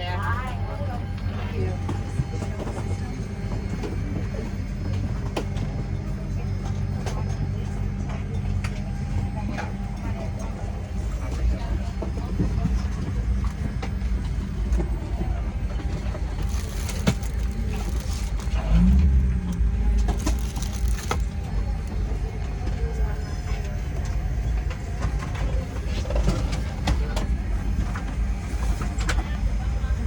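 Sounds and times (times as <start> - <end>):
low rumble of aircraft cabin: 0.0 - 30.0.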